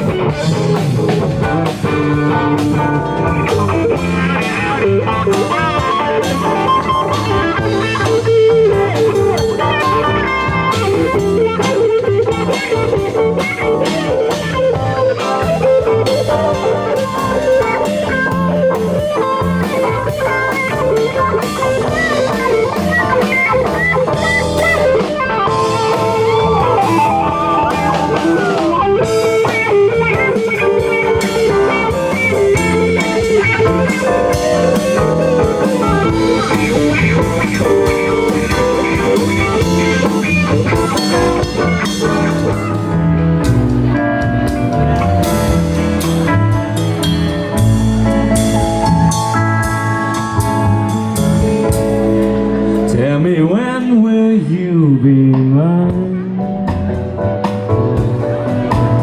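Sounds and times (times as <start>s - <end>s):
guitars with bent notes: 0.0s - 59.0s
live band playing instrumental: 0.0s - 59.0s.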